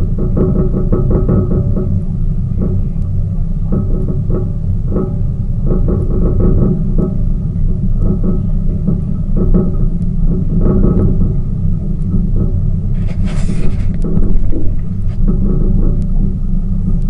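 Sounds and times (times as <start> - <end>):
boat motor rumbling: 0.0 - 17.0.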